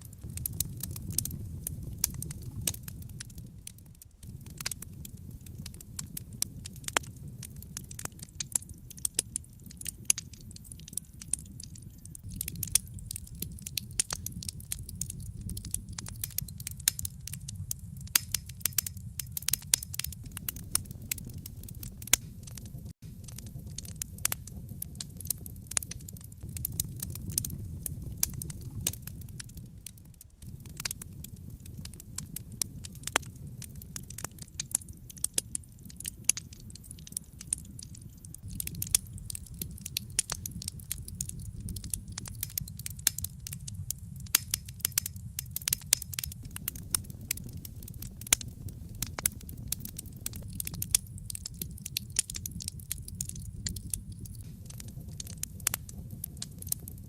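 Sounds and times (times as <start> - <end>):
low rumble of burning: 0.0 - 57.0
wood fire crackling and popping: 0.0 - 57.0.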